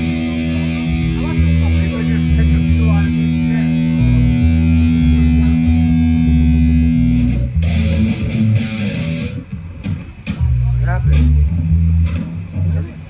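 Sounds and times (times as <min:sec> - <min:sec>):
amplified electric guitar: 0:00.0 - 0:13.0
bass guitar notes: 0:00.0 - 0:13.0.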